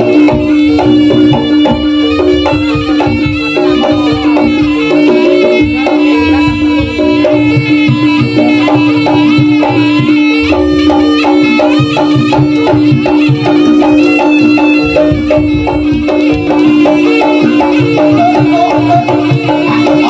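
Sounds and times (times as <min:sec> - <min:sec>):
hand drum patterns: 0:00.0 - 0:20.0
reedy shawm melody: 0:00.0 - 0:20.0.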